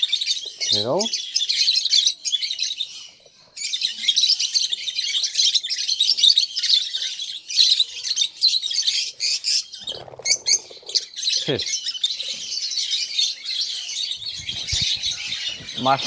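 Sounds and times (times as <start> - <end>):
flock of lovebirds chattering: 0.0 - 16.0.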